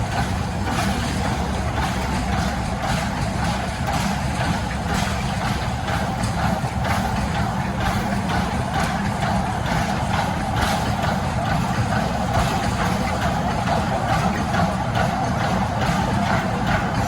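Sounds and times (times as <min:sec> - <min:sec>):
steel wheels rumbling on rail: 0:00.0 - 0:17.0
wheels clacking over rail joints: 0:00.0 - 0:17.0.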